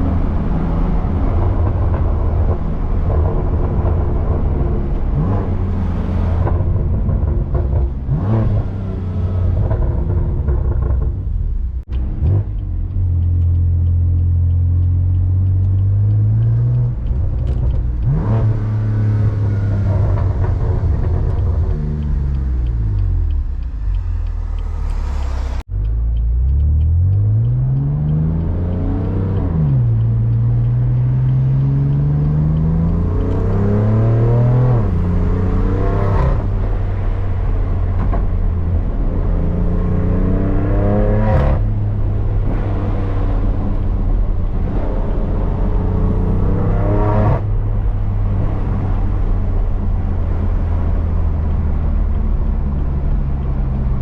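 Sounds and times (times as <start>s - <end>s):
car engine accelerating hard: 0.0s - 54.0s
exhaust cracks: 0.0s - 54.0s.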